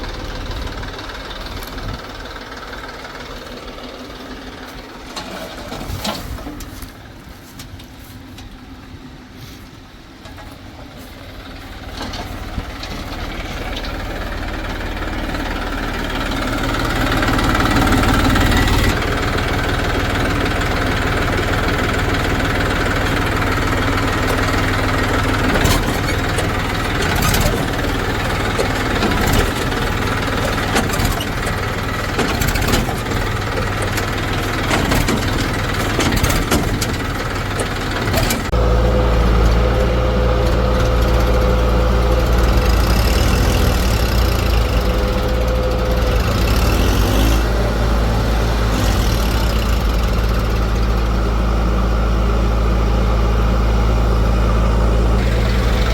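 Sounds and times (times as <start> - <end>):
heavy vehicle engine running: 0.0 - 55.9.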